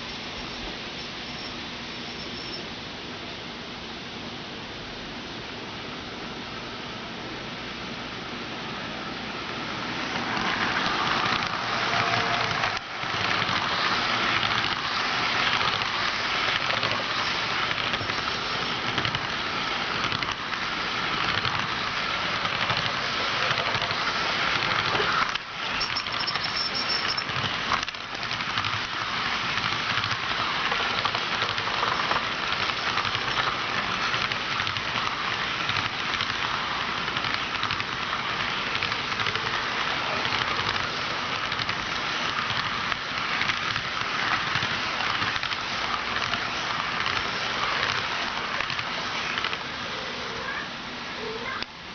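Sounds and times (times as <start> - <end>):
model train rattling on track: 8.8 - 51.6.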